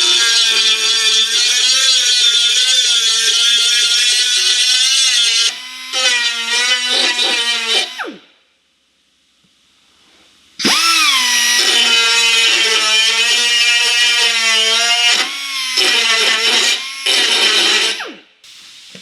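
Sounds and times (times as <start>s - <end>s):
power tool motor whining: 0.0s - 8.2s, 10.6s - 19.0s.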